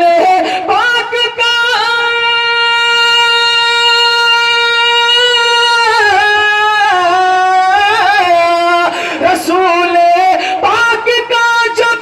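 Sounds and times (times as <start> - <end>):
person singing solo: 0.0 - 12.0.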